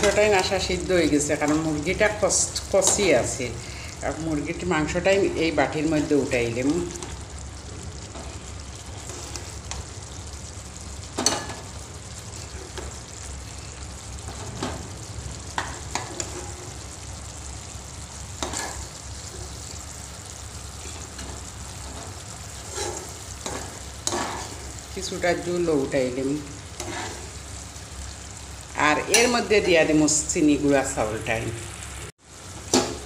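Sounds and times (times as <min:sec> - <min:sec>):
gravy sizzling and bubbling in pan: 0:00.0 - 0:33.0.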